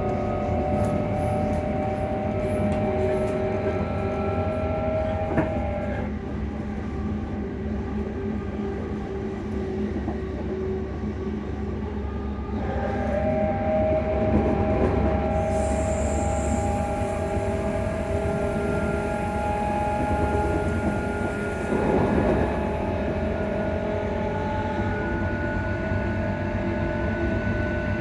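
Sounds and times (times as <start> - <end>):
electrical hum of train: 0.0 - 28.0.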